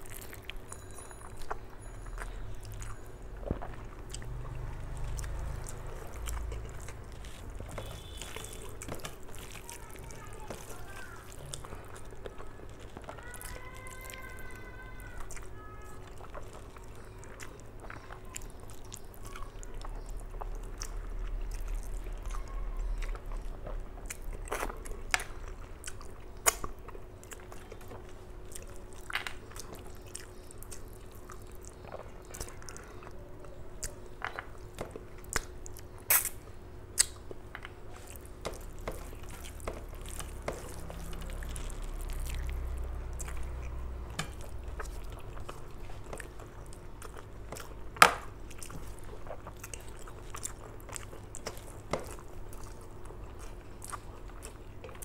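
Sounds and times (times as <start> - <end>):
faint steady hum: 0.0 - 55.0
wet squishy chewing: 0.0 - 55.0.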